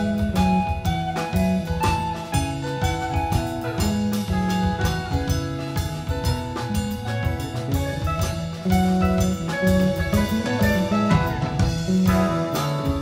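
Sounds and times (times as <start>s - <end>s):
drum kit steady beat: 0.0s - 13.0s
electric guitar: 0.0s - 13.0s.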